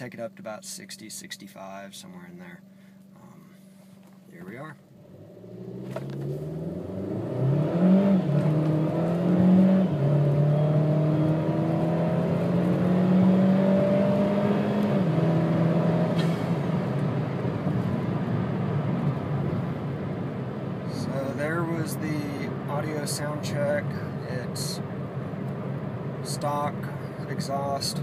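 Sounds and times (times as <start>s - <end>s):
car engine accelerating: 4.9s - 28.0s.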